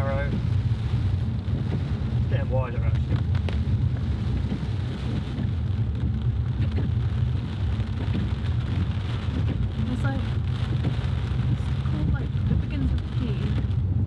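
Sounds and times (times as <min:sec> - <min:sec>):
car engine and tyre rumble: 0:00.0 - 0:14.0
rain hitting windscreen: 0:00.0 - 0:14.0
windscreen wipers running: 0:00.0 - 0:14.0.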